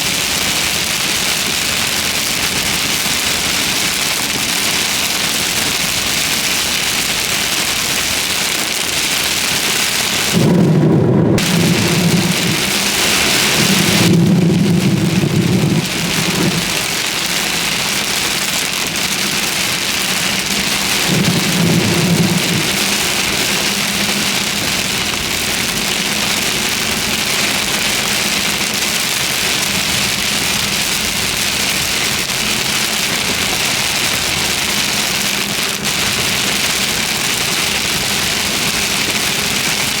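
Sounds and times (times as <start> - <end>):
heavy rain: 0.0 - 40.0
thunder rumbling: 0.0 - 40.0.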